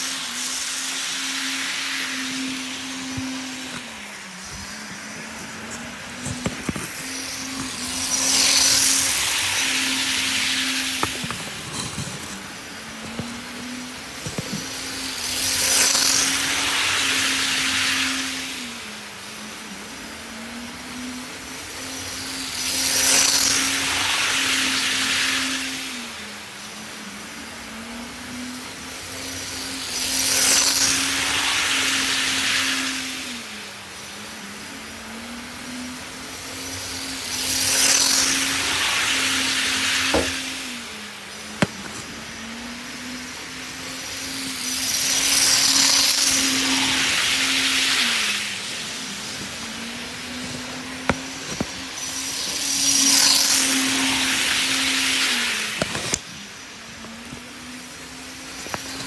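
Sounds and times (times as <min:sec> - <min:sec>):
model train motor hum: 0:00.0 - 0:59.0
wheels on rails: 0:00.0 - 0:59.0.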